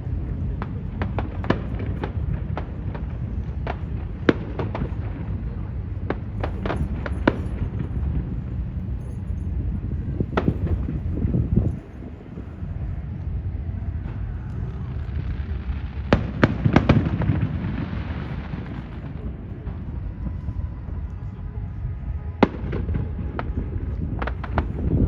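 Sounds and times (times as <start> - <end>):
fireworks cracking and popping: 0.0 - 20.4, 22.4 - 25.0
fireworks bangs: 0.0 - 25.0
low rumble: 0.0 - 25.0.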